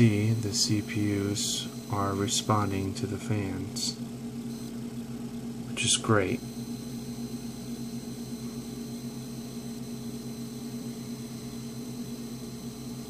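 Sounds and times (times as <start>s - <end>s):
computer cooling fans humming: 0.0s - 13.0s.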